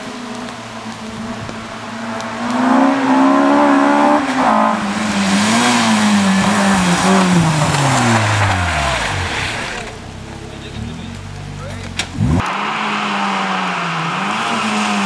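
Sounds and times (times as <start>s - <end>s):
rally car engine revving: 0.3s - 15.0s.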